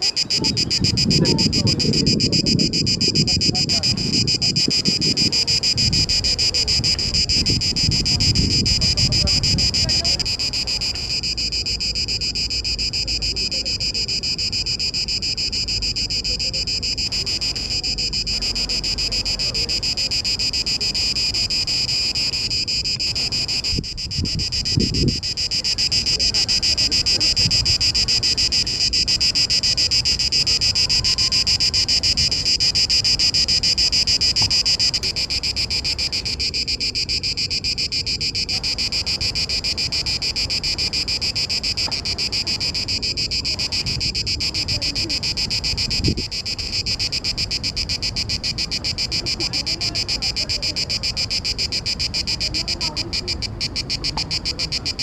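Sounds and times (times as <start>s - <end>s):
cicada buzzing: 0.0s - 55.0s.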